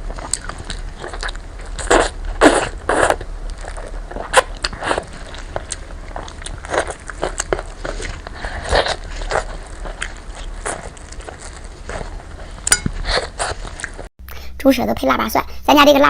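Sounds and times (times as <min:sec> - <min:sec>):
person chewing food: 0:00.0 - 0:14.1.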